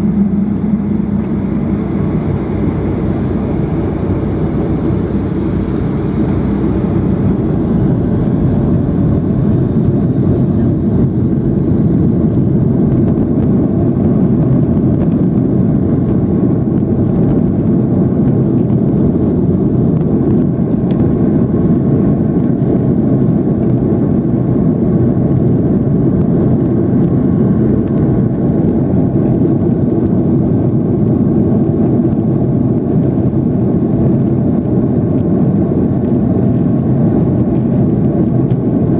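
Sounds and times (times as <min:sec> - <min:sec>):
jet engines in aircraft cabin: 0:00.0 - 0:38.9.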